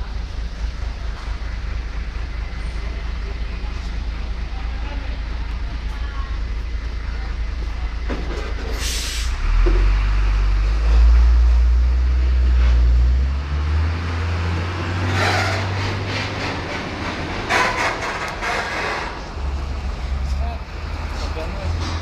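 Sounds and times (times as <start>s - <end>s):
truck engine droning: 0.0s - 22.0s.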